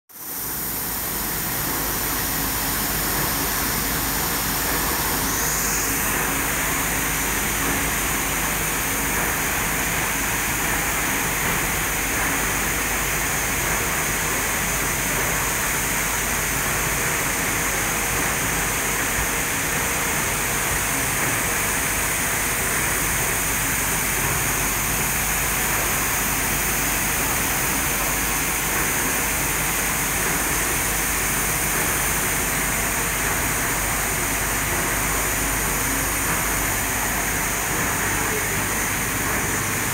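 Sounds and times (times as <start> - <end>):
blending machine humming: 0.2 - 39.9.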